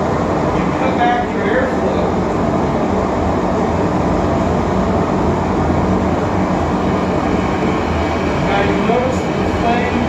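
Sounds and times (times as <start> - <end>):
propane forge burner rumble: 0.0 - 10.0.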